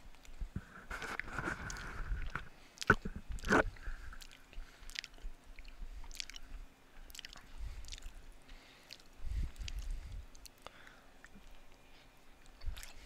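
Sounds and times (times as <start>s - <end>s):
mouth clicks and smacks: 0.2s - 11.8s
person chewing food: 0.2s - 13.0s.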